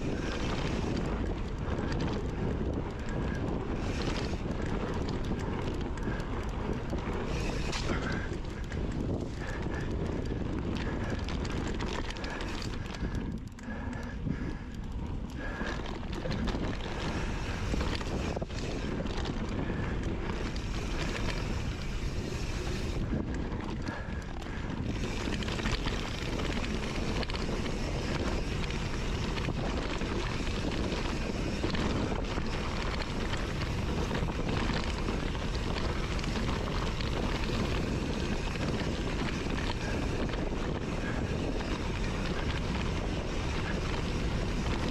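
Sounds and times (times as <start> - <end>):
bike clicks and knocks: 0.0 - 44.9
bike rolling on dirt trail: 0.0 - 44.9
wind buffeting microphone: 0.0 - 44.9.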